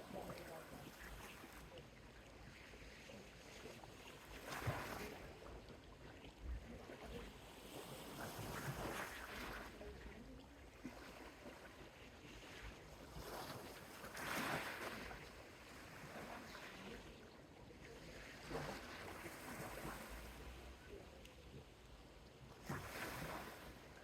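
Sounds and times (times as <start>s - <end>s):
small waves washing onto shore: 0.0s - 24.0s.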